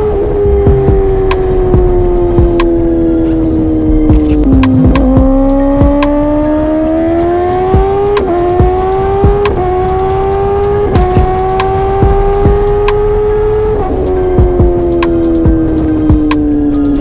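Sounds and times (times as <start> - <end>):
motorcycle engine revving: 0.0 - 17.0
music: 0.0 - 17.0.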